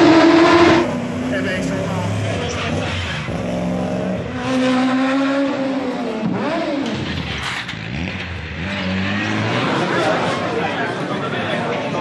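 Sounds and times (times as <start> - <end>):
rally car engines revving: 0.0 - 12.0.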